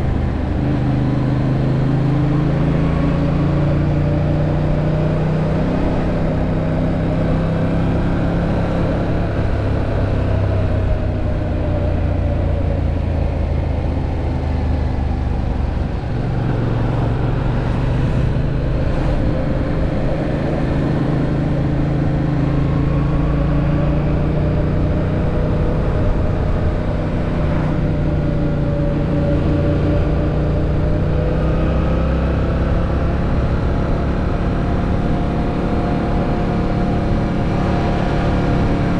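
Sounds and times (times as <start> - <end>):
motorcycle engine: 0.0 - 38.9
rush of riding wind: 0.0 - 38.9.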